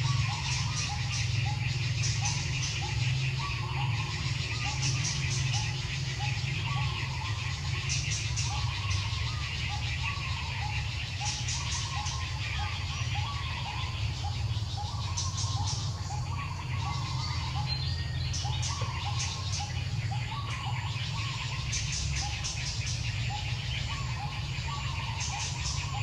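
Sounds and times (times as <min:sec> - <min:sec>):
bird rising call: 0:00.0 - 0:26.0
high chirping: 0:00.0 - 0:26.0.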